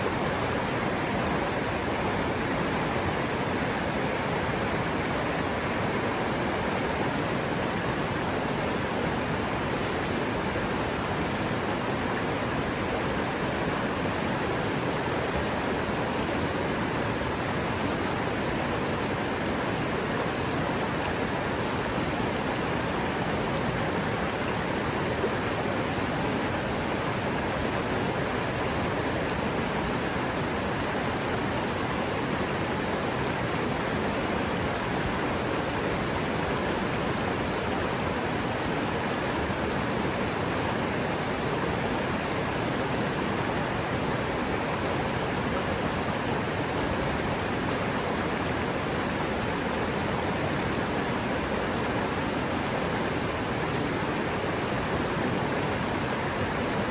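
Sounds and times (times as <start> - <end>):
river water running: 0.0 - 56.9.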